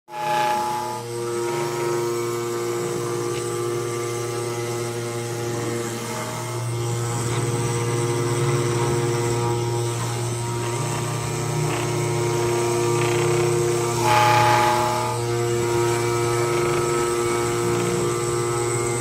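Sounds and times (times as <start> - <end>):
machine motor humming: 0.1 - 19.0.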